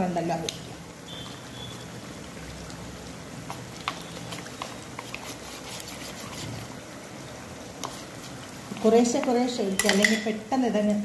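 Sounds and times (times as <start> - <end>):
gravy boiling in a wok: 0.0 - 11.0.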